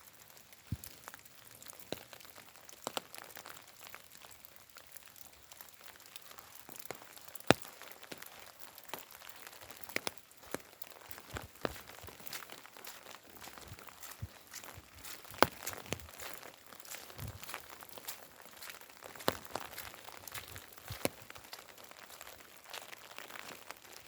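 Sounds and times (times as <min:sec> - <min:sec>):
light rain pattering: 0:00.0 - 0:24.0.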